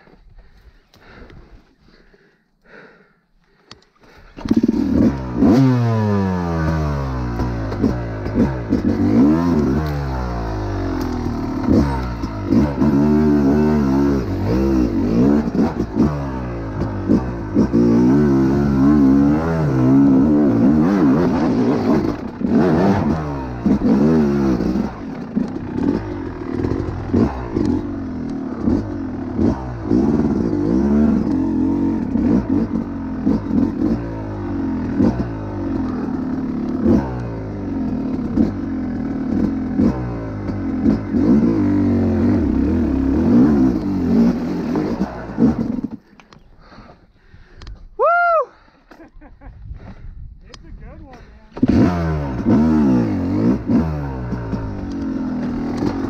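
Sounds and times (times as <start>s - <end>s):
dirt bike engine revving: 4.3s - 46.1s, 51.2s - 56.0s.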